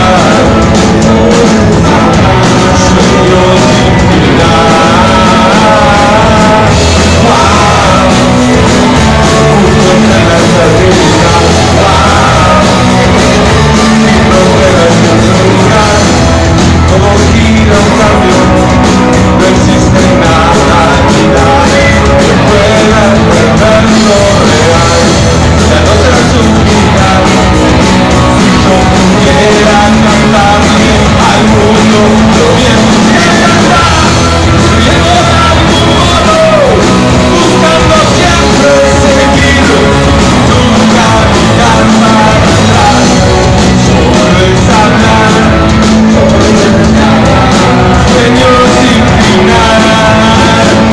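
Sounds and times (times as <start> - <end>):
person singing: 0.0 - 50.9
rock band playing live: 0.0 - 50.9.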